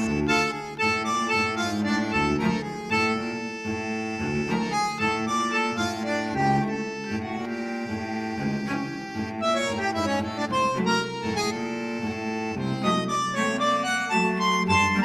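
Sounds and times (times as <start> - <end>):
guitar: 0.0 - 15.0
harmonica melody: 0.0 - 15.0.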